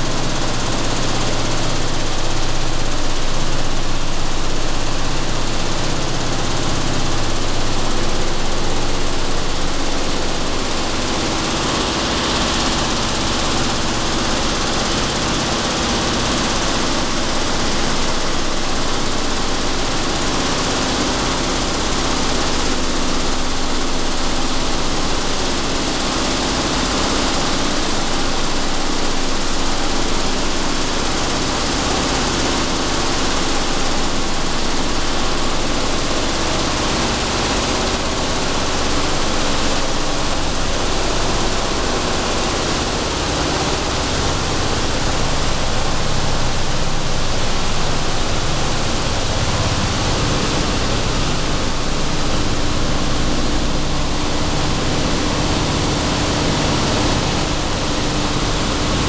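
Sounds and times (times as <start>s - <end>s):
machinery running: 0.0s - 59.0s.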